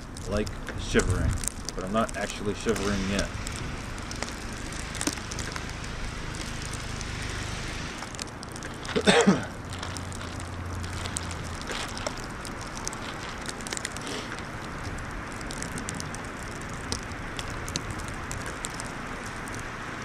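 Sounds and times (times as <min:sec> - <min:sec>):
plastic bag crackling: 0:00.0 - 0:20.0
wind noise: 0:00.0 - 0:20.0.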